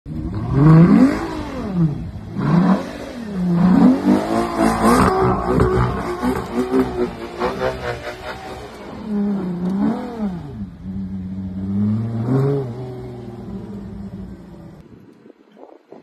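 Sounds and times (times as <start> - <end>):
car engine revving: 0.1 - 14.8.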